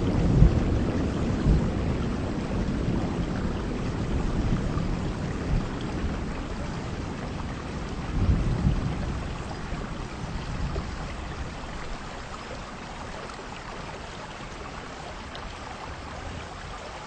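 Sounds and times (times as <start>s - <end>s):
low thunder rumble: 0.0s - 16.6s
heavy rain falling: 0.0s - 17.0s.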